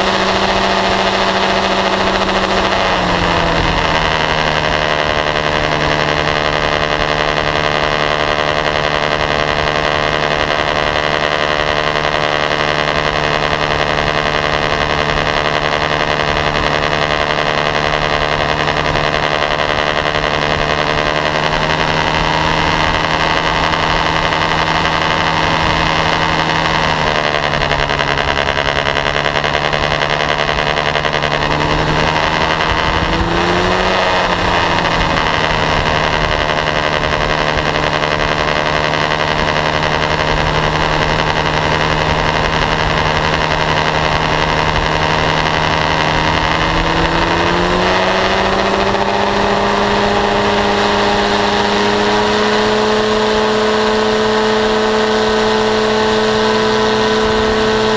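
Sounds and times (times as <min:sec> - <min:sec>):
paramotor engine and propeller: 0:00.0 - 0:57.9.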